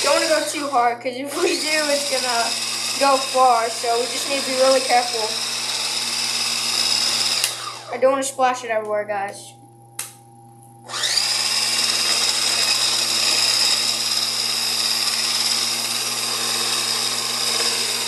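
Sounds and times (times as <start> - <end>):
electric mixer whining: 0.0 - 8.1, 10.8 - 18.0.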